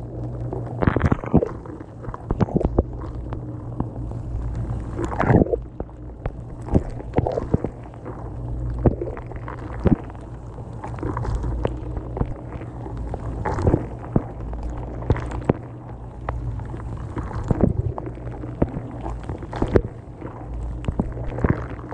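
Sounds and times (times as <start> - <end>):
water spraying and sloshing: 0.0 - 21.9.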